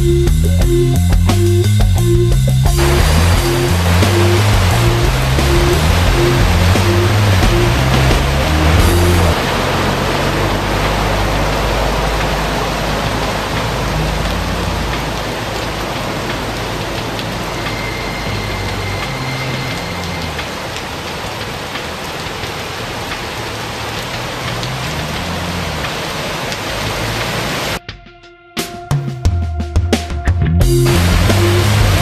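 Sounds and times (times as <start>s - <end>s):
heavy rain on street: 0.2s - 27.8s, 30.6s - 32.0s
car tyres swishing through water: 2.7s - 27.8s, 30.8s - 32.0s.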